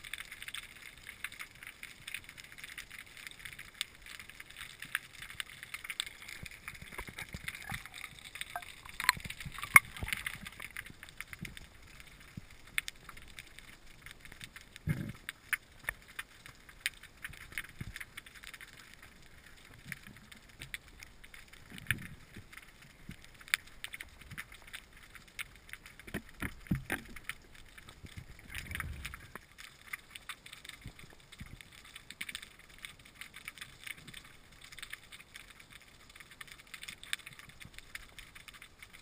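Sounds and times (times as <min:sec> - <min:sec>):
underwater crackle of sharp clicks: 0:00.0 - 0:39.0.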